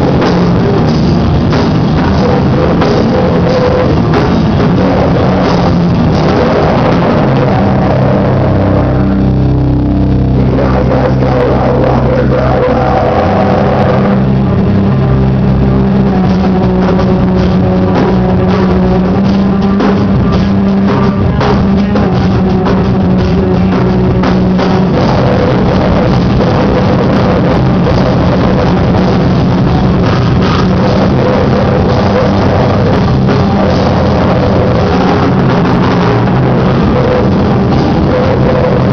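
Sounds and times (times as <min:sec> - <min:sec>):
distorted electric guitar: 0:00.0 - 0:38.9
drum kit: 0:00.0 - 0:38.9.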